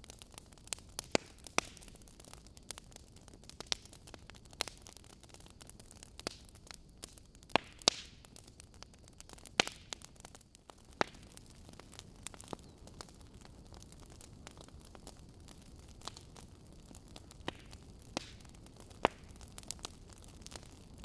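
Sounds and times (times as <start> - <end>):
faint steady hiss: 0.0 - 21.0
fire crackling and popping: 0.0 - 21.0.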